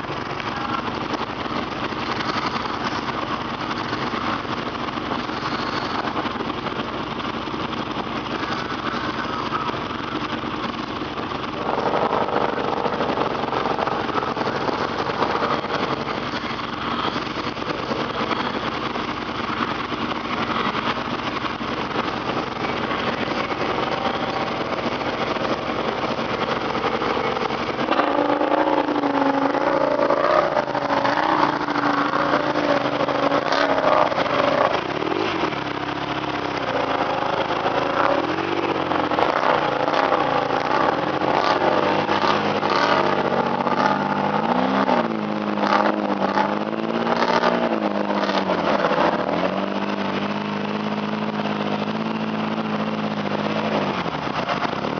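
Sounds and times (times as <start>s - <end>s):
engine revving: 0.0s - 54.9s.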